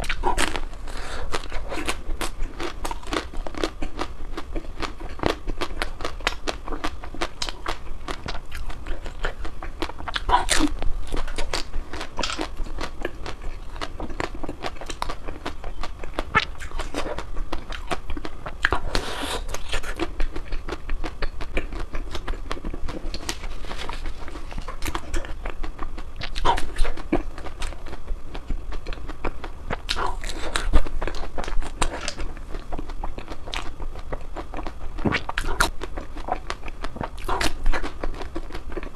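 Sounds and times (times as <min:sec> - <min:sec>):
person chewing ice cream: 0:00.0 - 0:38.9.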